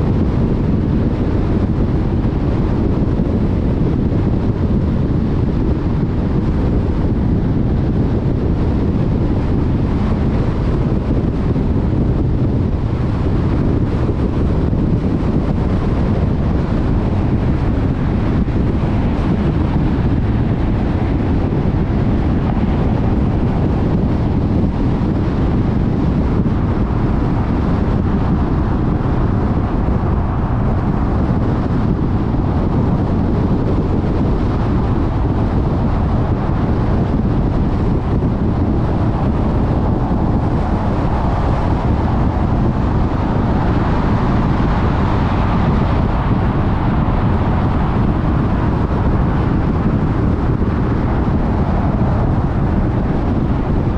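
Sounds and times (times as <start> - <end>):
road and tyre noise: 0.0 - 53.9
wind rush: 0.0 - 53.9.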